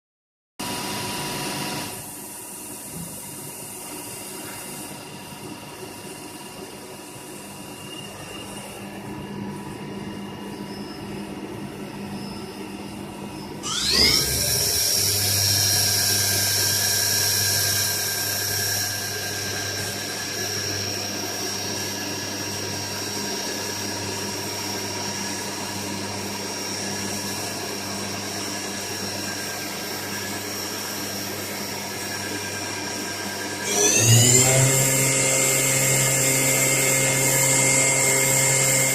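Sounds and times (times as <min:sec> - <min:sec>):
machine spindle whining: 0:07.4 - 0:38.9.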